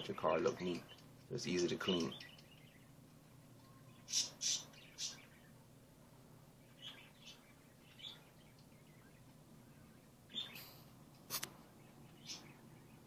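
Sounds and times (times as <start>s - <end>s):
bird chirping: 0.0s - 10.9s, 11.6s - 13.0s.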